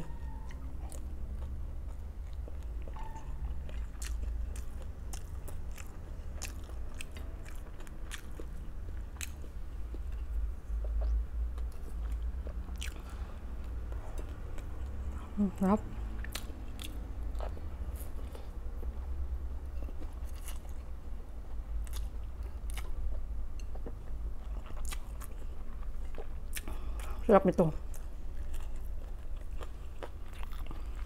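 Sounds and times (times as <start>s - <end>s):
person chewing food: 0.0s - 31.0s
steady low hum: 0.0s - 31.0s.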